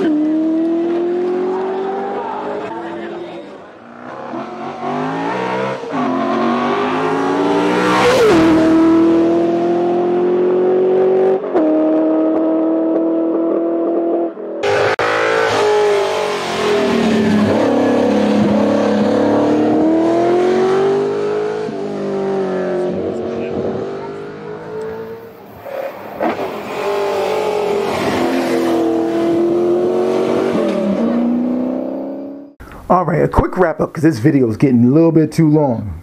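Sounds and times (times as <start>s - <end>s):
car engine accelerating hard: 0.0s - 32.6s.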